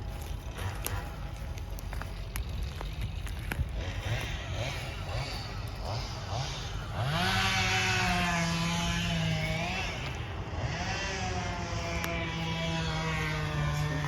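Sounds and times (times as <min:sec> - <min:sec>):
small engine revving and idling: 0:00.0 - 0:14.0.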